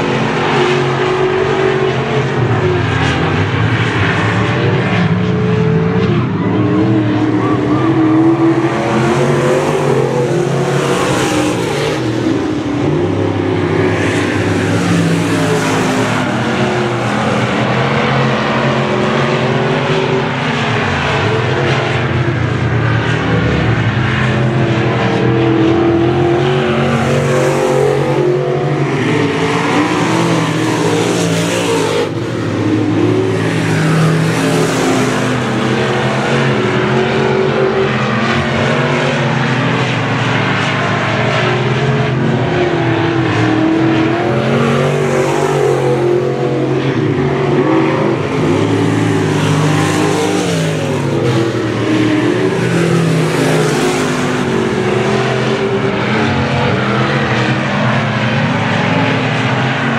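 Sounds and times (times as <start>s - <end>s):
race car engines running hard: 0.0s - 59.9s.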